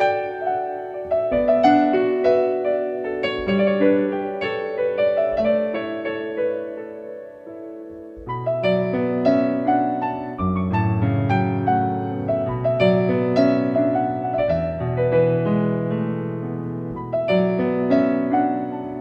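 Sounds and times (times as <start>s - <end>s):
background piano music: 0.0s - 19.0s.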